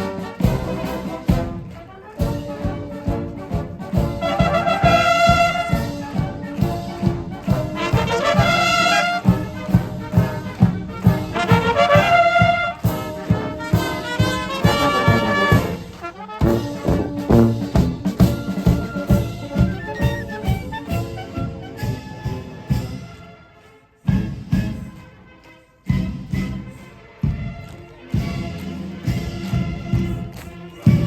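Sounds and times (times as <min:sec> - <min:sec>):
marching drum beat: 0:00.0 - 0:23.3, 0:24.0 - 0:25.2, 0:25.8 - 0:31.0
brass playing a march: 0:00.0 - 0:31.0.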